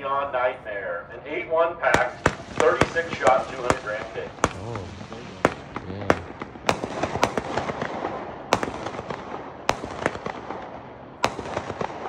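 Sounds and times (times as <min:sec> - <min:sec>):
firework bangs: 0:01.8 - 0:12.0
firework pops and crackle: 0:02.0 - 0:12.0.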